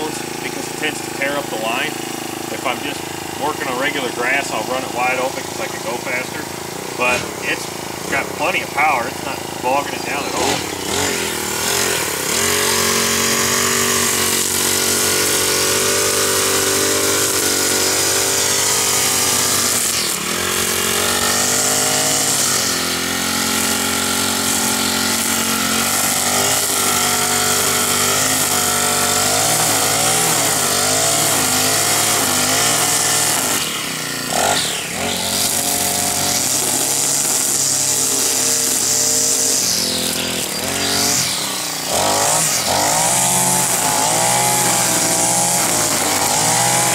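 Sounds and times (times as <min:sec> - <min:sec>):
string trimmer engine running: 0:00.0 - 0:46.9
trimmer line cutting grass: 0:00.0 - 0:46.9.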